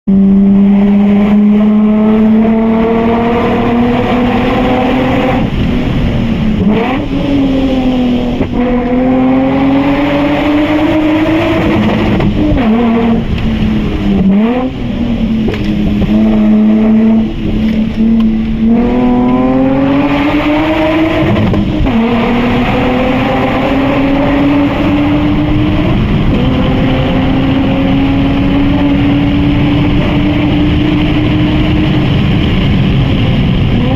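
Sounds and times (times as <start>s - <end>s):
car exhaust accelerating: 0.1s - 33.9s.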